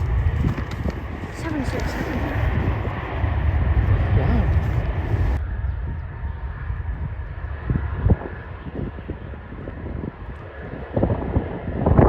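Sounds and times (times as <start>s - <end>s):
jet engine high whine: 0.0s - 12.0s
jet engine rumble: 0.0s - 12.0s.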